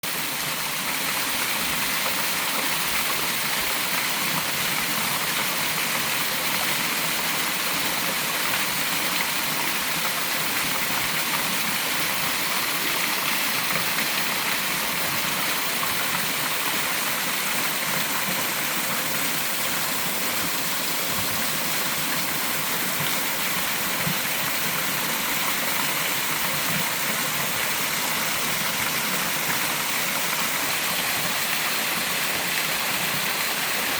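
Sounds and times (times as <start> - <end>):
small waterfall splashing: 0.0 - 33.9.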